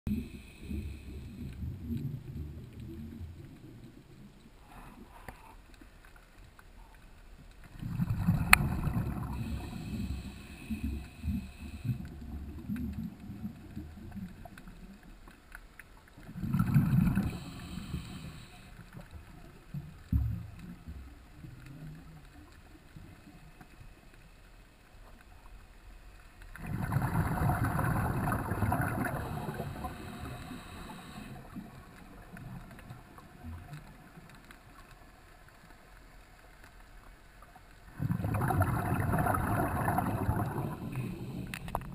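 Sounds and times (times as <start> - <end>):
underwater bubbles gurgling: 0.1 - 41.9.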